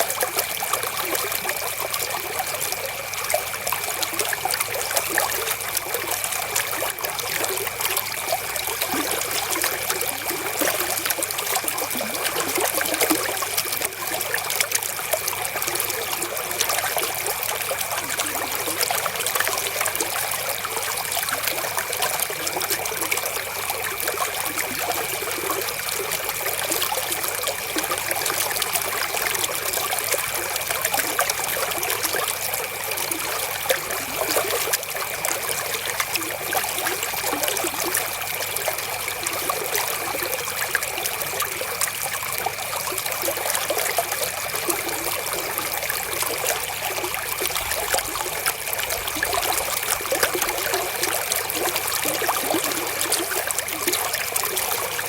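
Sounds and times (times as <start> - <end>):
river water trickling and splashing: 0.0 - 55.0.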